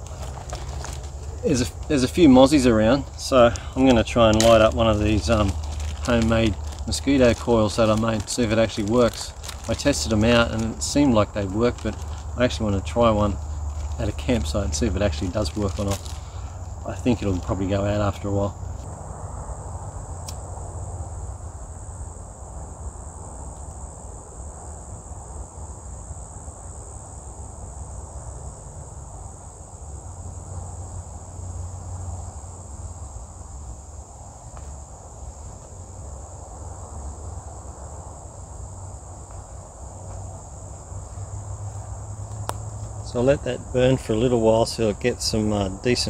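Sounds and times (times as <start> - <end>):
insect chorus chirring: 0.0 - 46.0.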